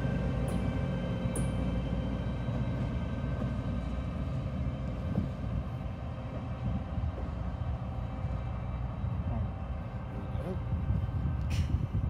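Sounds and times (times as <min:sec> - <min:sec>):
diesel locomotive engine rumble: 0:00.0 - 0:12.0
train cars rolling on rails: 0:00.0 - 0:12.0.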